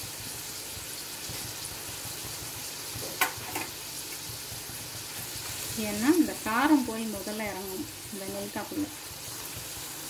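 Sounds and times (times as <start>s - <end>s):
gooseberries sizzling in oil: 0.0s - 10.0s.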